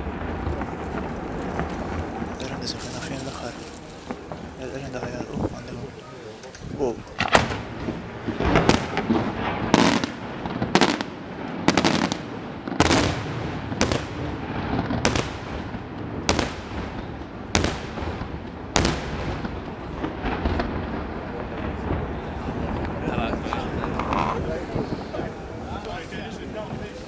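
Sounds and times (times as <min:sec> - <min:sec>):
fireworks exploding with echo: 0:00.0 - 0:27.0.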